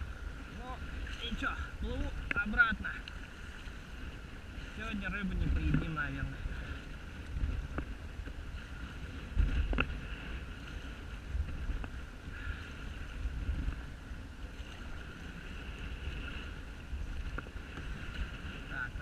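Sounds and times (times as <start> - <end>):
water splashing around kayak: 0.0 - 19.0
wind rumbling on microphone: 0.0 - 19.0.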